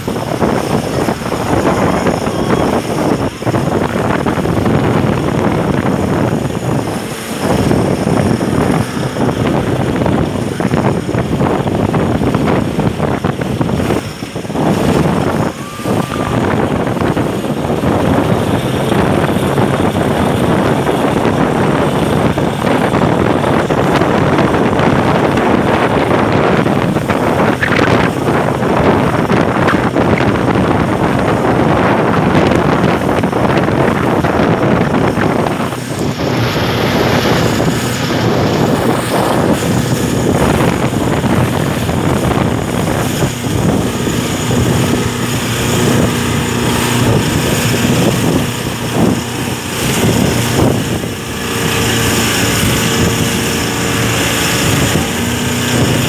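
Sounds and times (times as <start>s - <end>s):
motorboat engine running: 0.0s - 56.0s
water churning: 0.0s - 56.0s
wind buffeting microphone: 0.0s - 56.0s.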